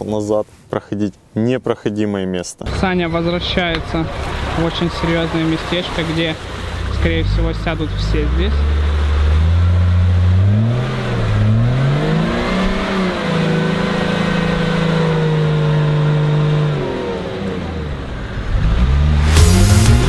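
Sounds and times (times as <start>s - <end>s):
engine revving: 2.7s - 20.0s.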